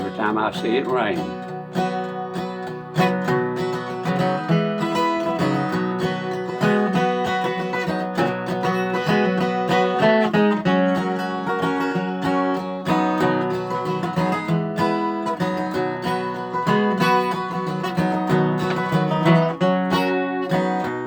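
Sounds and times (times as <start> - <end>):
acoustic guitar country music: 0.0 - 21.0.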